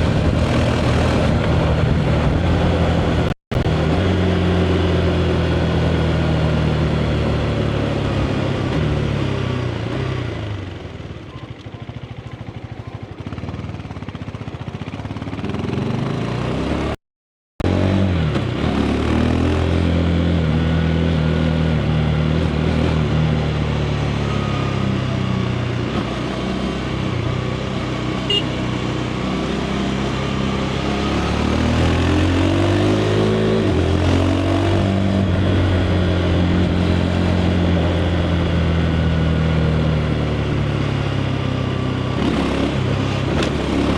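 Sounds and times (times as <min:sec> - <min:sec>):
motorcycle engine: 0:00.0 - 0:17.0, 0:17.6 - 0:43.9.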